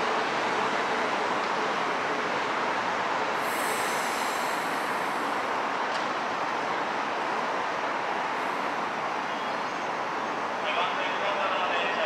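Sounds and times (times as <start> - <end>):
trains running through station: 0.0 - 12.0.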